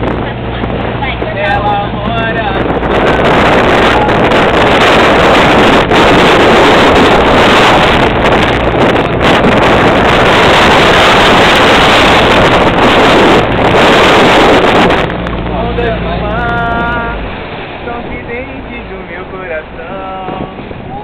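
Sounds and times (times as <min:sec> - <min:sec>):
motorboat engine: 0:00.0 - 0:21.0
water rushing: 0:00.0 - 0:21.0
wind noise on microphone: 0:00.0 - 0:21.0.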